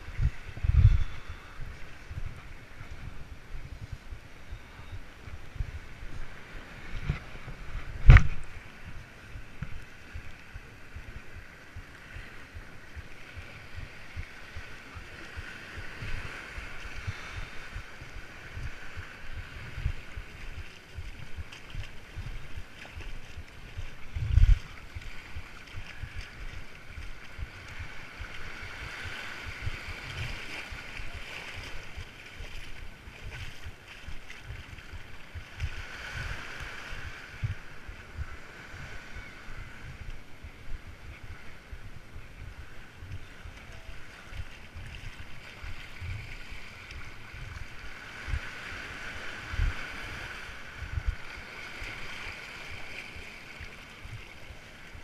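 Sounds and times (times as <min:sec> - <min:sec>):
small waves washing on sand: 0:00.0 - 0:55.0
wind buffeting microphone: 0:00.0 - 0:55.0.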